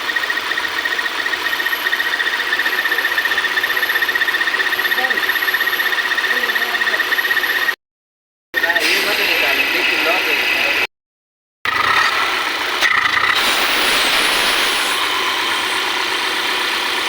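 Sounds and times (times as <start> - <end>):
engine with pulsing high whine: 0.0 - 7.8, 8.6 - 10.9, 11.7 - 17.0.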